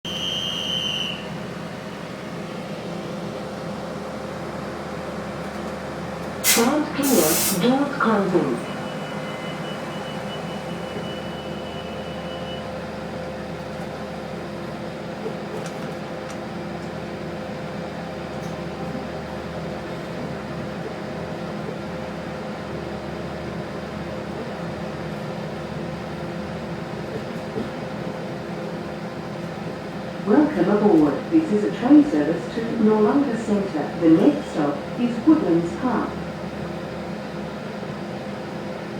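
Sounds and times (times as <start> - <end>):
railcar engine and air conditioning hum: 0.1 - 38.9.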